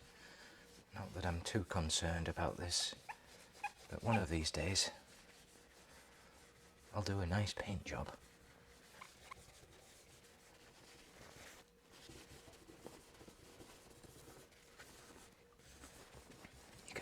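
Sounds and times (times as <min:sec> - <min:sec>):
cloth rubbing on metal tank: 0:00.0 - 0:17.0.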